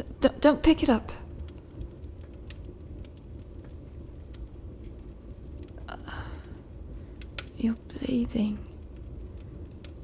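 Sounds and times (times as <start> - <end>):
fireplace crackling and popping: 0.0 - 10.0
rain: 0.0 - 10.0.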